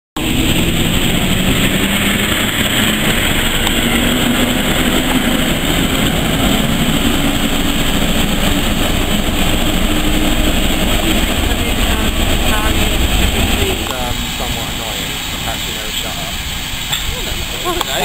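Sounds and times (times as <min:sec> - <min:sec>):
diesel locomotive engine running: 0:00.2 - 0:18.0.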